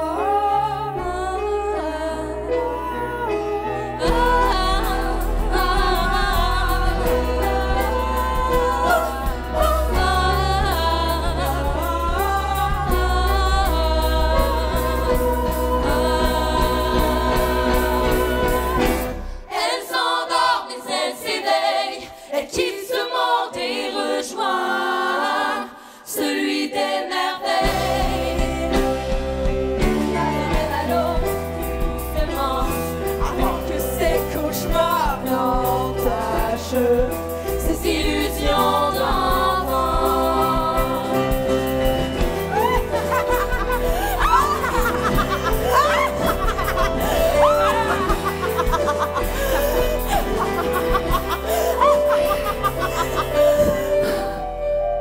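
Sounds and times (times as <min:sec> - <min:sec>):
band music with singing: 0:00.0 - 0:55.0.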